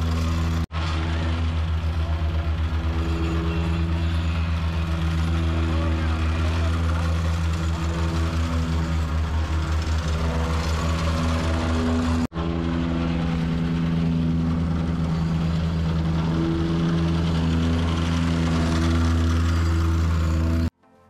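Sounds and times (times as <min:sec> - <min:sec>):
plate compactor engine running: 0:00.0 - 0:20.7
vibrating plate pulsing: 0:00.0 - 0:20.7.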